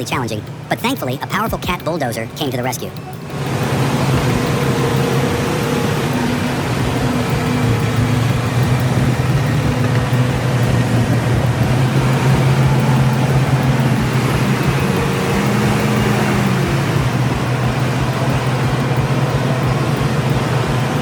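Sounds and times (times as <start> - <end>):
diesel engines under load: 0.0 - 21.0.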